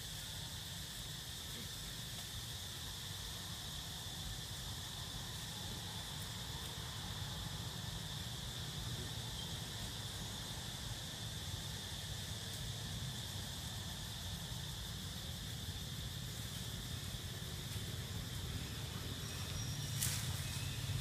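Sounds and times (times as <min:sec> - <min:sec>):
forest insects buzzing: 0:00.0 - 0:21.0.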